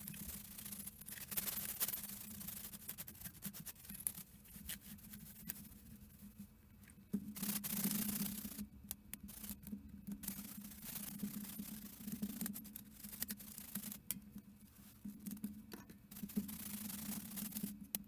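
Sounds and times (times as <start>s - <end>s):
rubbing and scraping with clicks: 0.0s - 18.0s.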